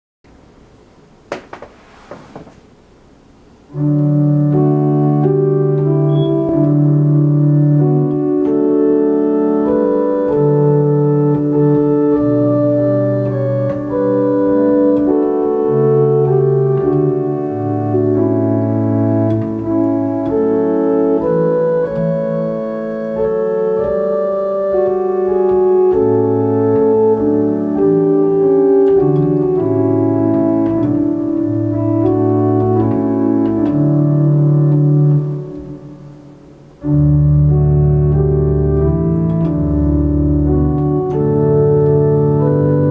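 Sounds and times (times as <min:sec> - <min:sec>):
organ playing sustained chords: 0:03.6 - 0:42.9.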